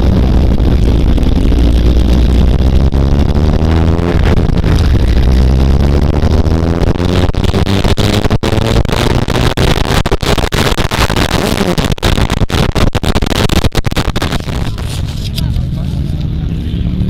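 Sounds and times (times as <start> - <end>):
wind rushing over microphone: 0.0 - 16.6
motorcycle engine: 0.0 - 17.0.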